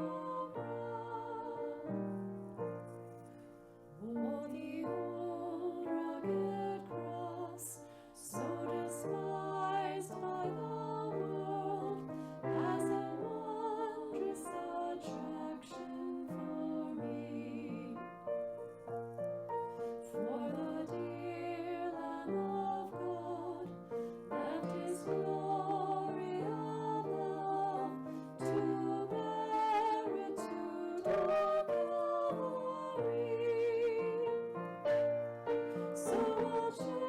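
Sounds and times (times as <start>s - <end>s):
gentle keyboard music: 0.0s - 37.0s.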